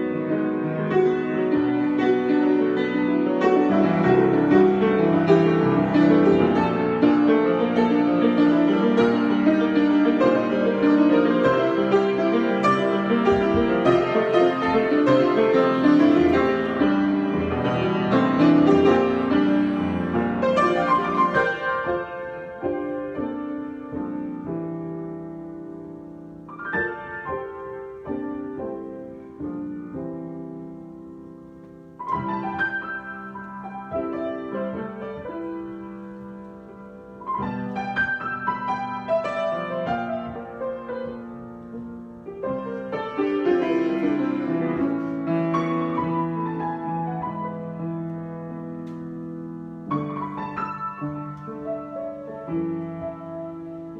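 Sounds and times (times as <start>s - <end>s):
solo piano: 0.0s - 53.9s.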